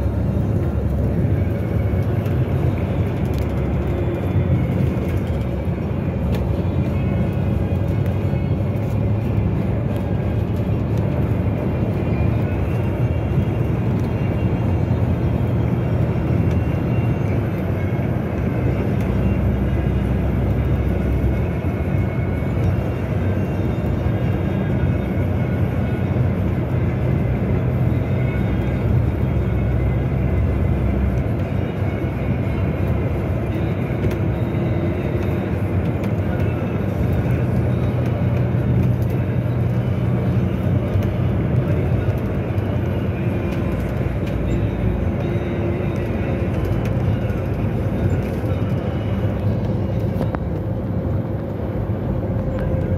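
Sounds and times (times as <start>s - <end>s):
car engine and tyres droning: 0.0s - 52.9s.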